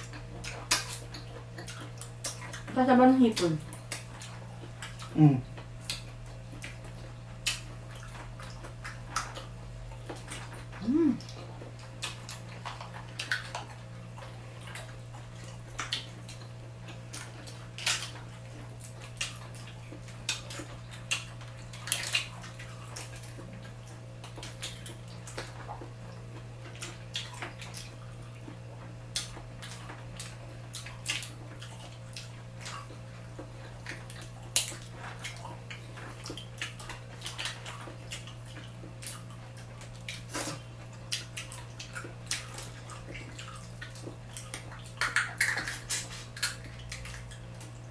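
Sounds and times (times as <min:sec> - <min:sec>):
low steady hum: 0:00.0 - 0:47.9
wet chewing smacks and clicks: 0:00.0 - 0:47.9.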